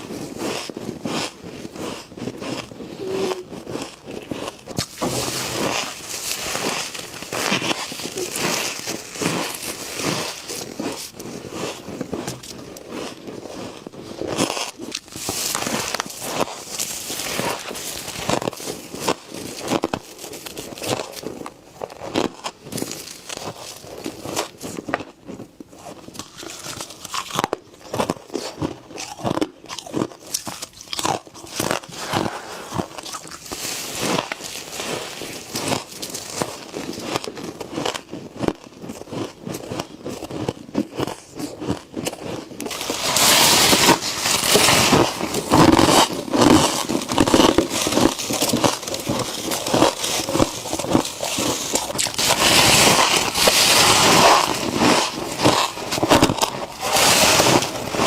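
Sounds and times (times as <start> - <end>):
crunching and chewing ice: 0.0 - 58.0.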